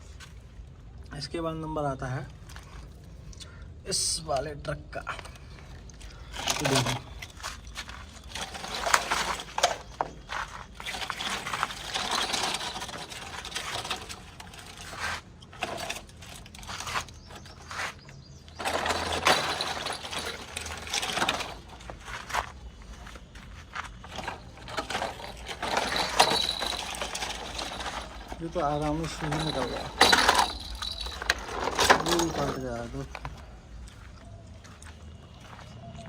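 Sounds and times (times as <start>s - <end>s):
plastic toy truck rattling and scraping: 4.0s - 33.6s.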